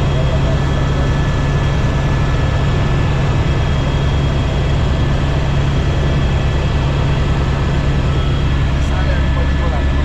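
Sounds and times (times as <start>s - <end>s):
helicopter low drone: 0.0s - 10.0s.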